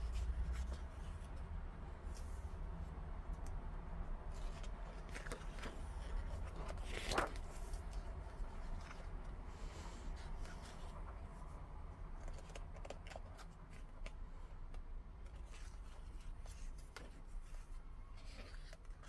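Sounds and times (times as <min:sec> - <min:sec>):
book pages turning: 0:00.0 - 0:01.4, 0:02.1 - 0:02.5, 0:04.3 - 0:19.0.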